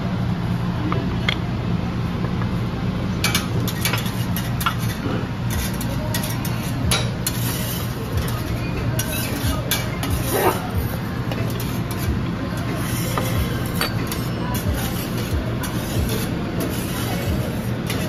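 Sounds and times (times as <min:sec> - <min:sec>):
steady low hum: 0:00.0 - 0:18.0
dishes and utensils clinking: 0:03.2 - 0:18.0.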